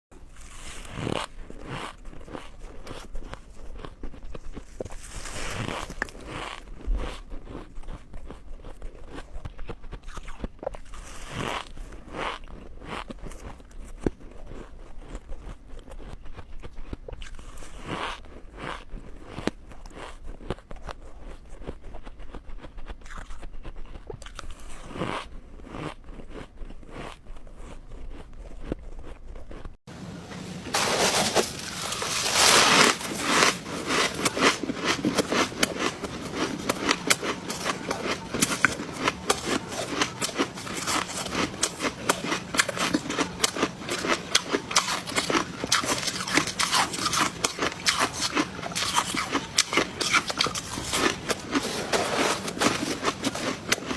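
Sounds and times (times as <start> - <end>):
ice crunching while chewed: 0.1 - 53.9.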